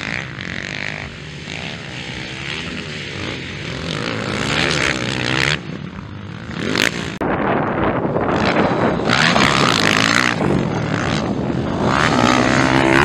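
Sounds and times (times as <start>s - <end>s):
dirt bikes revving: 0.0s - 13.0s.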